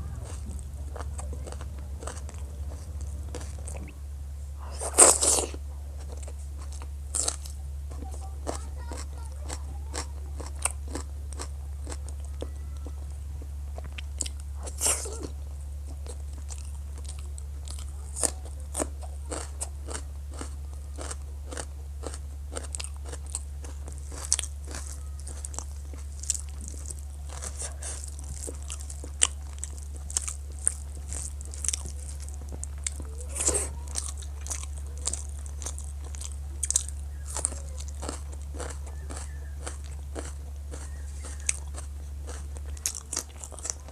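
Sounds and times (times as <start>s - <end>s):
chewing crunches: 0.0s - 43.9s
steady low hum: 0.0s - 43.9s.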